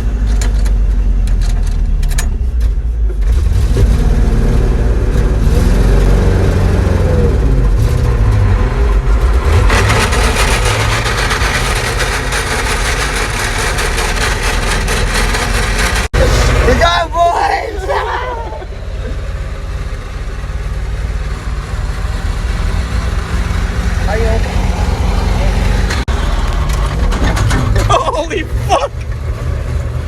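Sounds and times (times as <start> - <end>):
truck engine running: 0.0 - 30.0
harsh grinding noise: 3.4 - 28.4.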